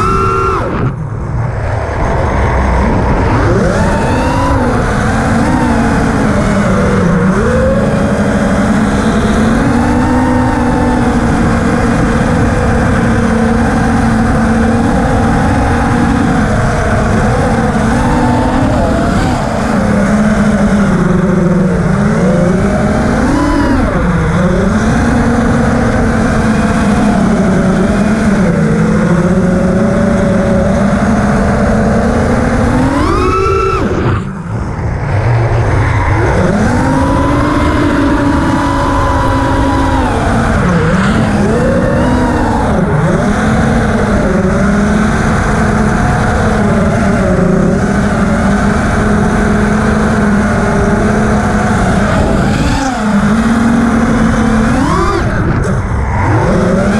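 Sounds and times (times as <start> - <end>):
quadcopter motors buzzing: 0.0 - 56.9.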